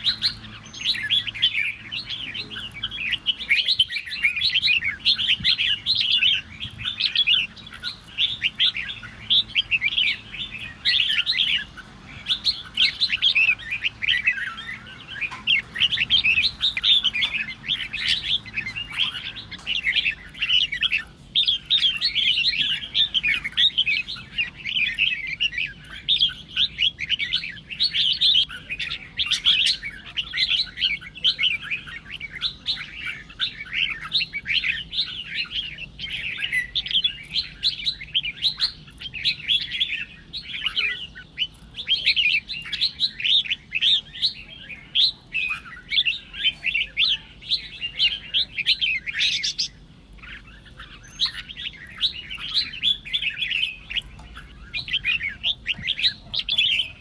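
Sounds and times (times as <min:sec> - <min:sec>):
birds chattering song: 0:00.0 - 0:57.0.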